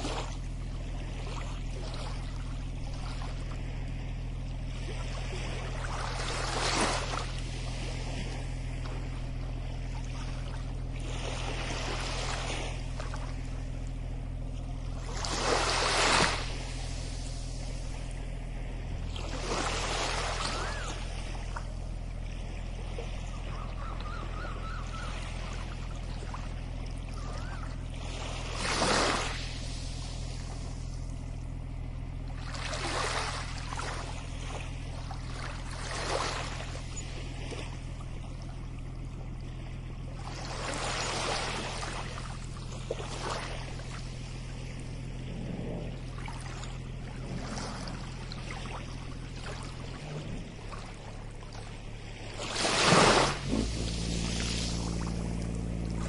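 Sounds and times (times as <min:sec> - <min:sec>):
small waves washing on sand: 0:00.0 - 0:14.1, 0:14.9 - 0:23.5, 0:24.7 - 0:31.6, 0:32.2 - 0:56.0
low rumble: 0:00.0 - 0:56.0.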